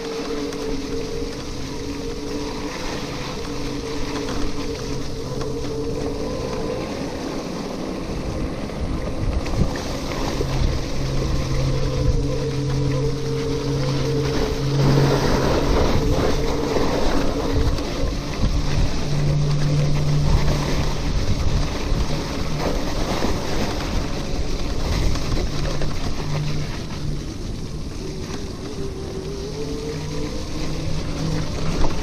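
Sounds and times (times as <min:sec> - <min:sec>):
bicycle rolling noise: 0:00.0 - 0:32.0
low hum with overtones: 0:00.0 - 0:32.0
wind buffeting microphone: 0:00.0 - 0:32.0.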